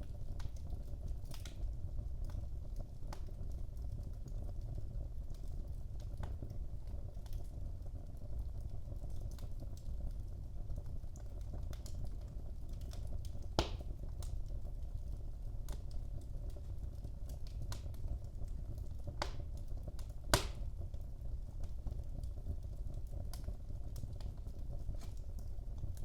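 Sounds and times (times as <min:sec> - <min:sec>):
fire popping: 0:00.0 - 0:26.0
wood fire crackling: 0:00.0 - 0:26.0.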